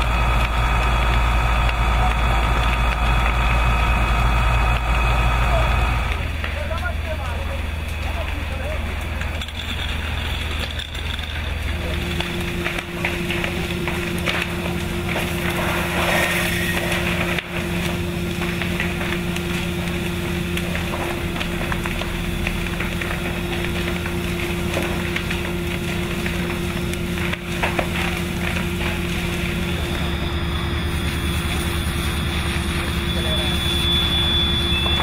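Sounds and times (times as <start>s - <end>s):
fire engine humming: 0.0s - 35.0s.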